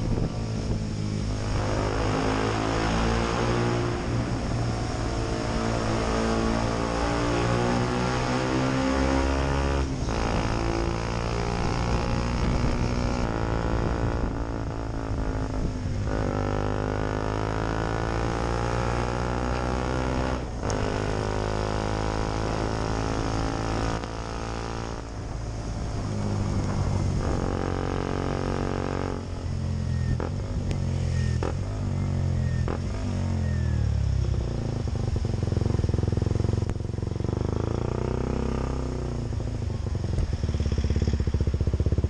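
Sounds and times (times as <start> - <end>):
motorcycle engine shifting gears: 0.0 - 42.0.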